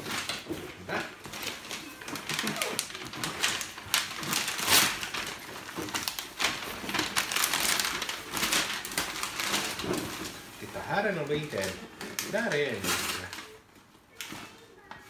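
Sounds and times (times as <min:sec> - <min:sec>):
wrapping paper rustling: 0:00.0 - 0:15.0.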